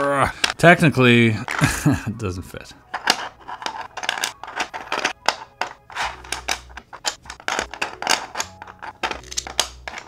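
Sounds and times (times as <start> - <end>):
plastic puzzle pieces clacking: 0.0 - 0.6, 1.3 - 2.0, 2.8 - 10.0
background music: 0.0 - 10.0.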